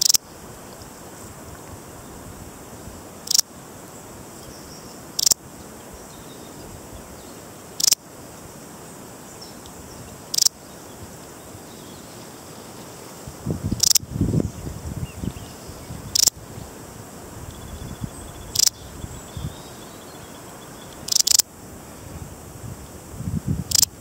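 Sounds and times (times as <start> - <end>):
bush-cricket chirps: 0.0 - 24.0
faint background hiss: 0.0 - 24.0.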